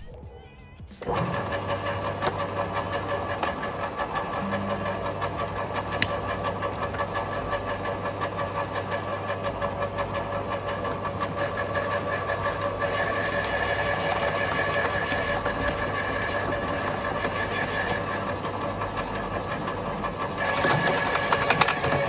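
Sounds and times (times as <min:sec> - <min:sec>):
shredder motor hum with whine: 0:01.0 - 0:22.0.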